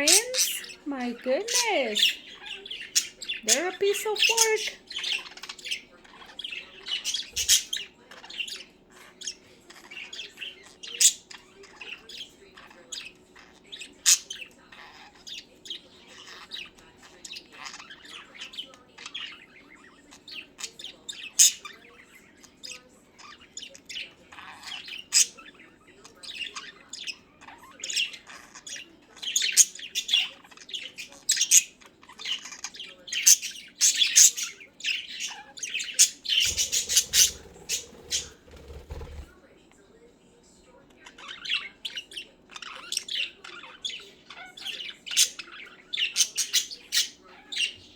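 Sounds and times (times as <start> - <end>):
budgerigars chattering and squawking: 0.0 - 39.4, 40.9 - 47.9.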